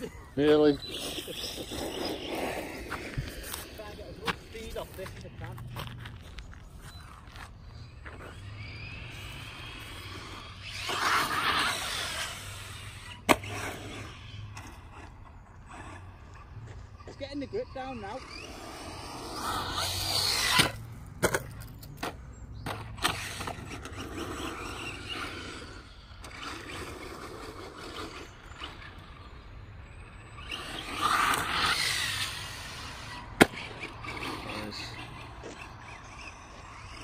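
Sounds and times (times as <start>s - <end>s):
rc truck motor whine: 0.0s - 5.7s, 6.3s - 37.0s.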